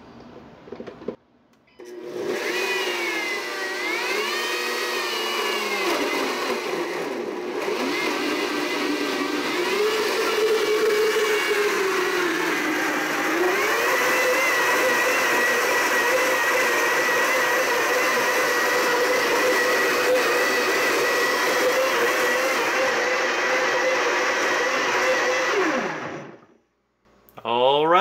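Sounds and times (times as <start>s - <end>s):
blender motor whine: 1.8s - 26.6s.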